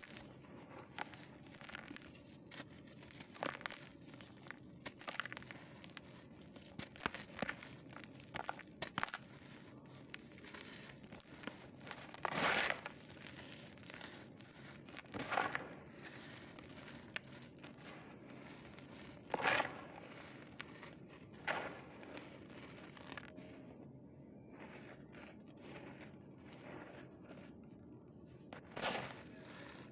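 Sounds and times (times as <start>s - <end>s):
dry dirt crunching by hand: 0.0s - 23.8s, 24.4s - 27.8s, 28.4s - 29.9s
powder sifting: 0.0s - 29.9s.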